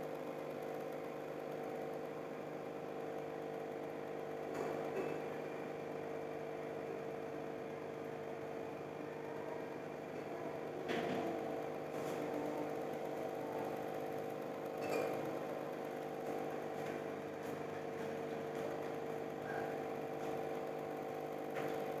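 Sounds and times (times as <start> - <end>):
aquarium pump humming: 0.0 - 22.0.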